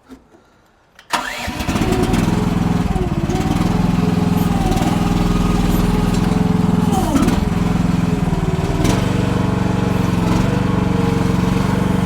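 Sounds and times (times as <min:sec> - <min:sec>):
excavator engine starting and running: 0:01.0 - 0:12.0.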